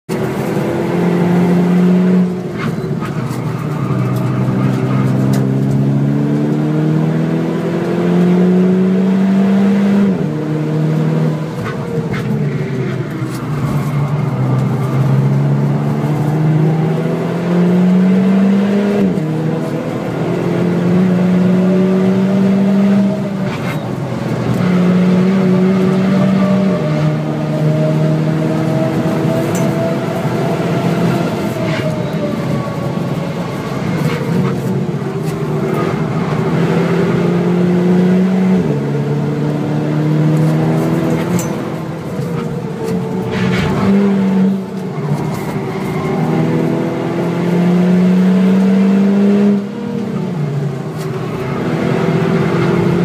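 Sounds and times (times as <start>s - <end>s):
car engine revving: 0.1s - 53.0s.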